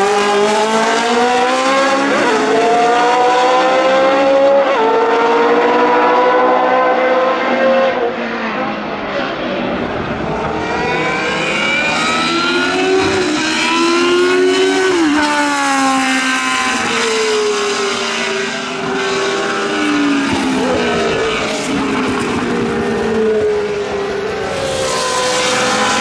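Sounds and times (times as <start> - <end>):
racing car engine passing: 0.0 - 26.0.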